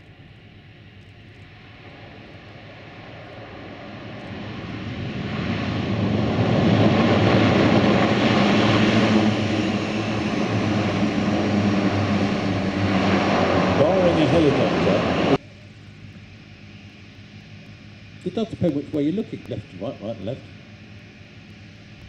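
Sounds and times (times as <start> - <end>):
aircraft propeller drone: 0.0 - 22.0.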